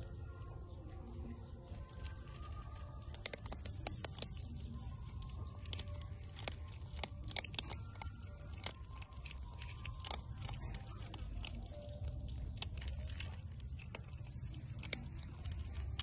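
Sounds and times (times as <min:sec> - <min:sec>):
kittens crunching kibble: 0:00.0 - 0:16.0.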